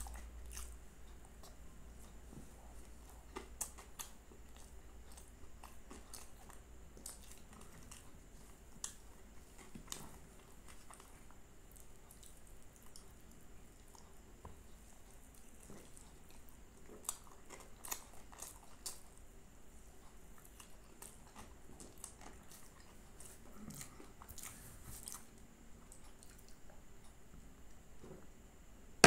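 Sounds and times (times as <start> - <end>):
crunching and chewing snacks: 0.0 - 19.3, 19.9 - 27.2.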